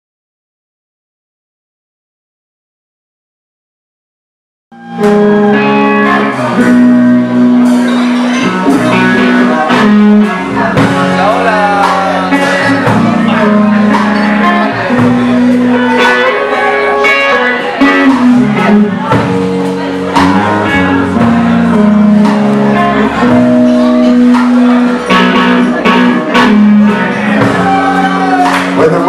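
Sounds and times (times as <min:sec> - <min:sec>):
drum kit: 0:04.7 - 0:29.0
electric bass: 0:04.7 - 0:29.0
electric guitar bending notes: 0:04.7 - 0:29.0.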